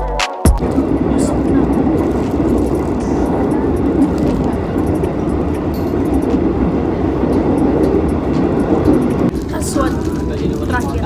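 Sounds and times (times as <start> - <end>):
train rumble inside carriage: 0.6 - 11.0.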